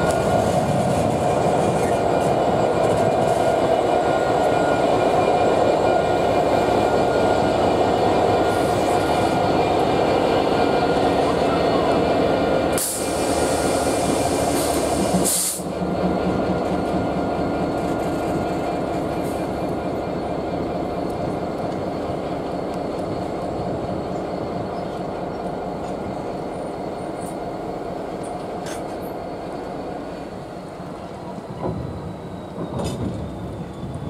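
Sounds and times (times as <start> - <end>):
diesel locomotive engine running: 0.0 - 34.0.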